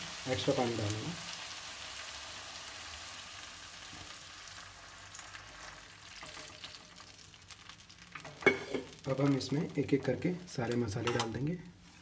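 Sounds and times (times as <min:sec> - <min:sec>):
vegetables sizzling in a hot pan: 0:00.0 - 0:11.1.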